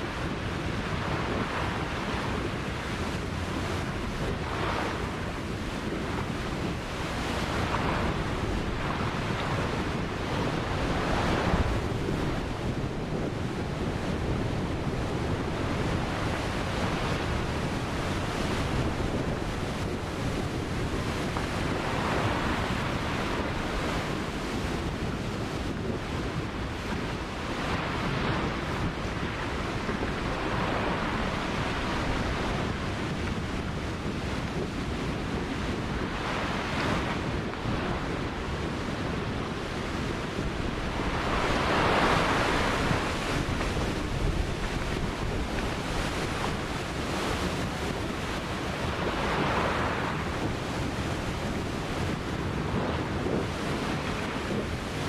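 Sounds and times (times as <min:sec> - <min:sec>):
waves breaking on shore: 0:00.0 - 0:55.0
wind buffeting microphone: 0:00.0 - 0:55.0.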